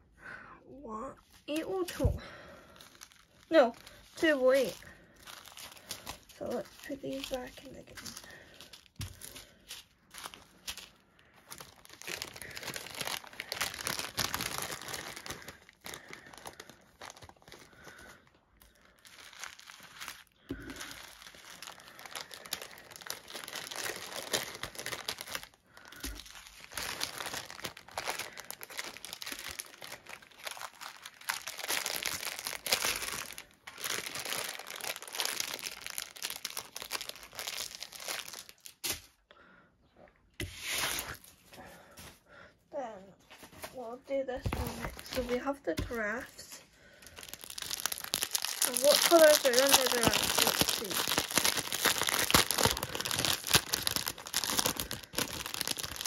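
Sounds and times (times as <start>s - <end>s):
plastic bags crinkling: 1.5s - 38.9s, 43.4s - 56.0s.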